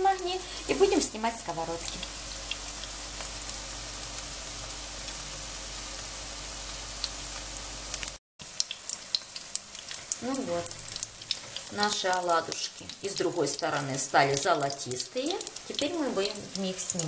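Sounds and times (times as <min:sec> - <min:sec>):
oil sizzling hiss: 0:00.0 - 0:17.0.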